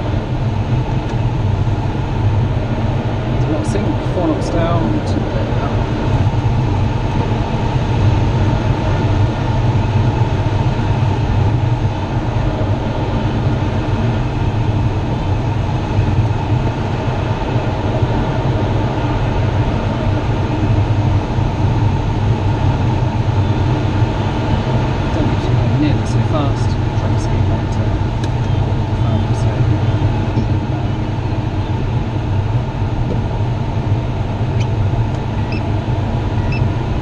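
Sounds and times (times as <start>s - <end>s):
air rushing over glider cockpit: 0.0s - 37.0s.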